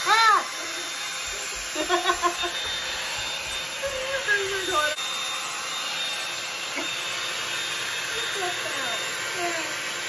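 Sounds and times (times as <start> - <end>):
hot-air brush blowing: 0.0 - 10.0
high motor whine: 0.5 - 10.0.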